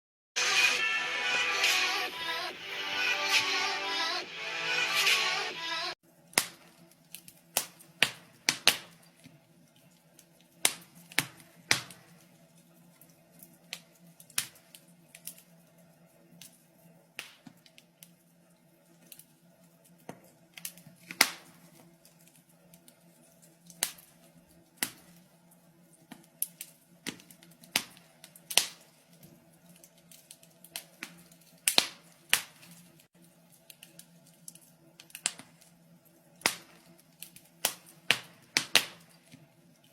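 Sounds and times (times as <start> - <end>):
wood fire crackling: 6.1 - 39.9.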